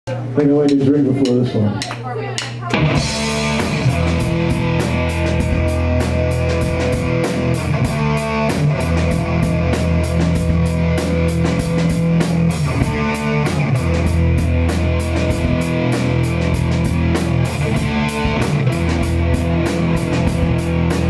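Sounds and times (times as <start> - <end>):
drums: 0.1 - 21.0
steady cymbal beat: 0.6 - 21.0
electric guitar riff: 2.7 - 21.0.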